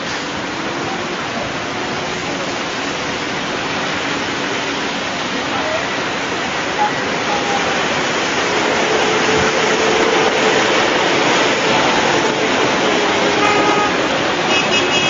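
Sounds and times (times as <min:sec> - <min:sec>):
water splashing rush: 0:00.0 - 0:15.0.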